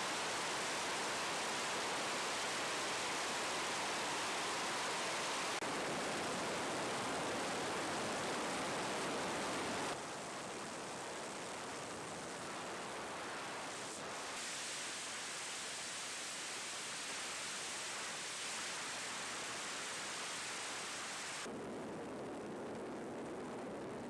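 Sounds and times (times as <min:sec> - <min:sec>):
steady rushing noise: 0:00.0 - 0:23.8.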